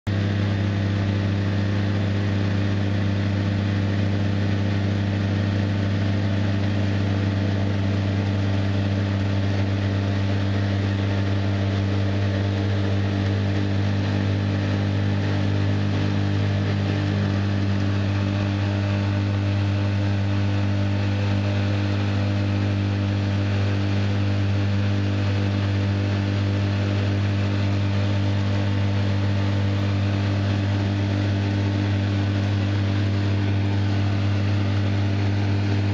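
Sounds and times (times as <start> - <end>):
engine under load: 0.1 - 35.9.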